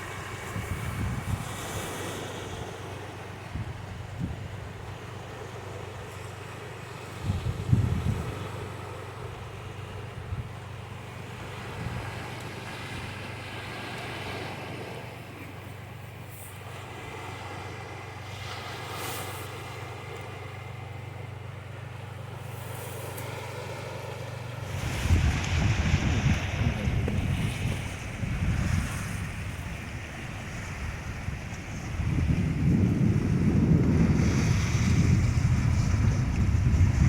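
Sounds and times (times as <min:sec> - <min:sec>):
low engine hum: 0:00.0 - 0:37.0
sea and wind noise: 0:00.0 - 0:37.0.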